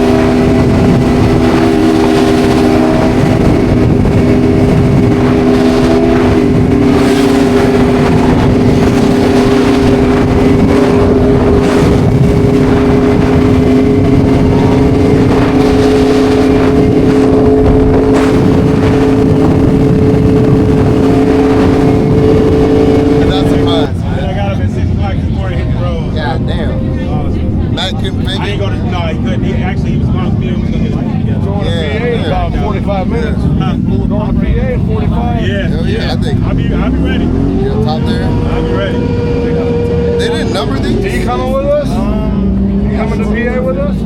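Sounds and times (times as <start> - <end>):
motorbike engine running loud: 0.0 - 27.9, 32.0 - 44.0.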